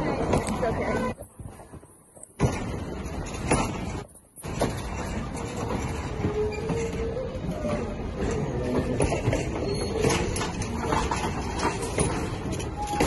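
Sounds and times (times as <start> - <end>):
train coaches rolling on rails: 0.0 - 13.0.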